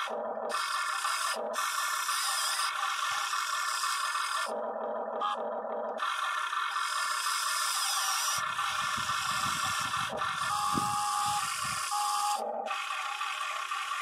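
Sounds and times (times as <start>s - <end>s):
electric motors whirring: 0.0s - 14.0s
higher motor whine: 0.0s - 14.0s.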